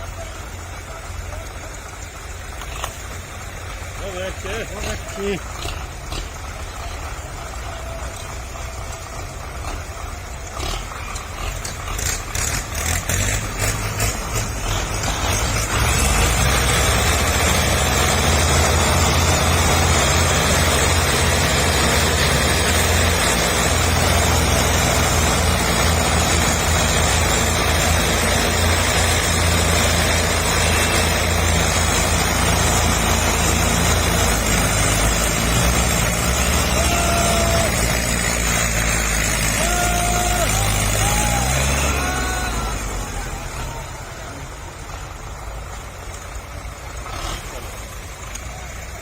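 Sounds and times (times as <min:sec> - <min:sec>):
tractor diesel engines revving: 0:00.0 - 0:49.0.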